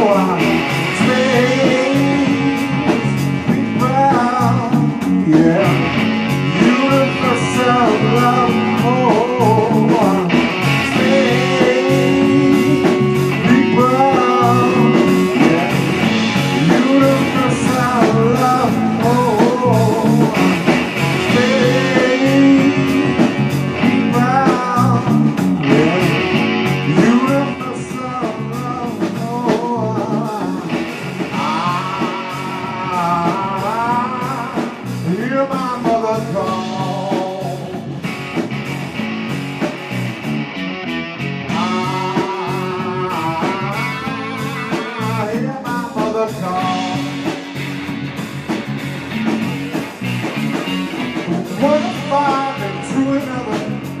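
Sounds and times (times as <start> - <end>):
person singing: 0.0 - 38.0, 41.5 - 47.6, 51.2 - 54.0
blues-rock band music: 0.0 - 54.0
electric guitar lead: 0.0 - 54.0.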